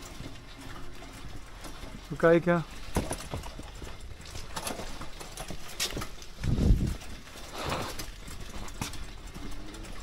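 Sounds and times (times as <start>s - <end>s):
hand truck clattering over paving: 0.0s - 10.0s.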